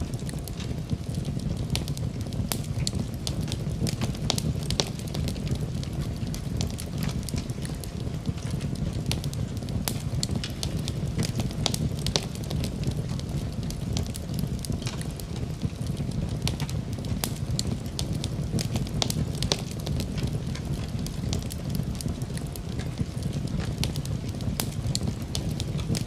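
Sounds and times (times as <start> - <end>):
fire crackling and popping: 0.0 - 26.0
low rumble of flame: 0.0 - 26.0.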